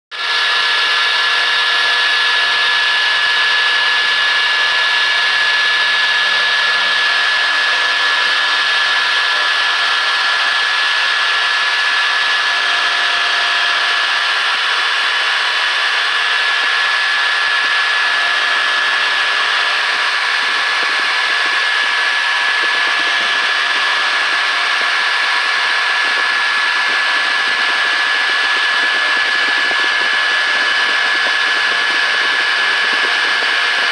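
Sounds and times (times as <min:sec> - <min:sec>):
milling spindle high whine: 0:00.1 - 0:33.9
whir of cutting: 0:00.1 - 0:33.9.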